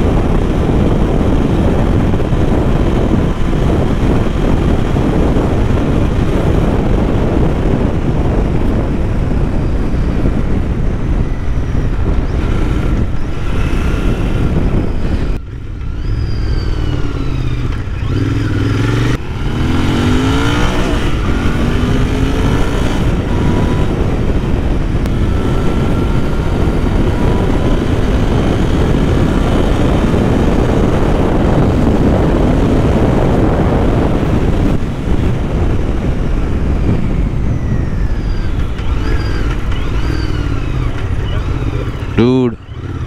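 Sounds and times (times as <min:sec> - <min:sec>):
motorcycle engine accelerating: 0:00.0 - 0:43.0
wind rush on microphone: 0:00.0 - 0:43.0.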